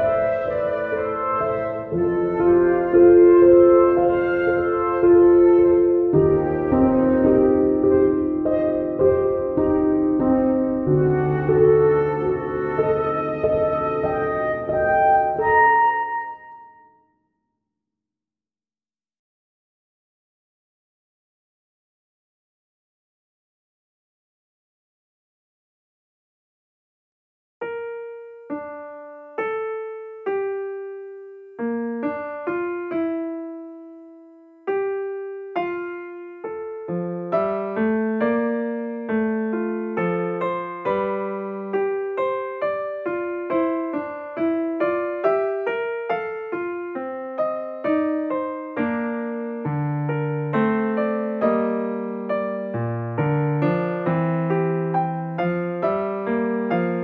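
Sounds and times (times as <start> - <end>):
slow solo piano: 0.0 - 16.9, 27.6 - 57.0.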